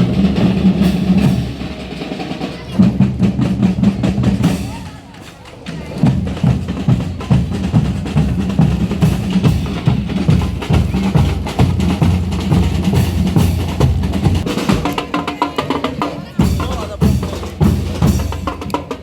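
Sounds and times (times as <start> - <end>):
bass drums beating: 0.0 - 5.0, 6.0 - 15.4, 16.2 - 19.0
snare drums: 0.0 - 19.0.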